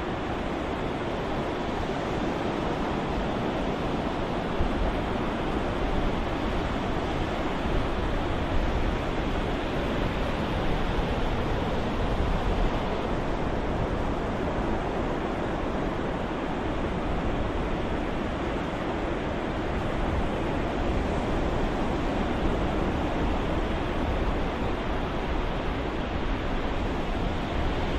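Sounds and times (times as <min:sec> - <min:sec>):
ocean surf wash: 0:00.0 - 0:27.9.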